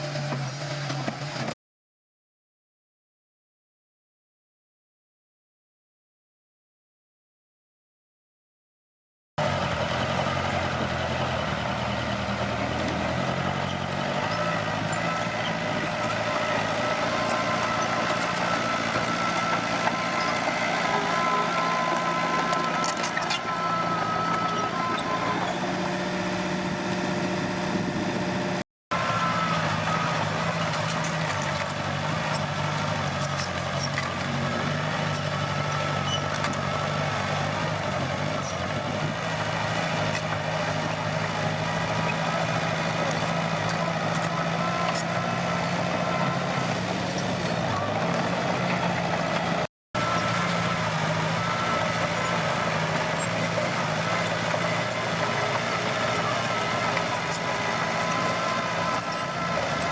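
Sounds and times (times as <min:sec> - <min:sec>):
bulldozer diesel engine running: 0:00.0 - 0:01.6, 0:09.4 - 0:59.9.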